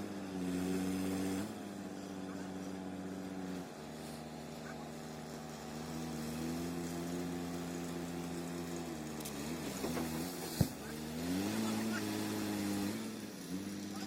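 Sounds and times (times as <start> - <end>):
wood chipper engine running: 0.0 - 14.0.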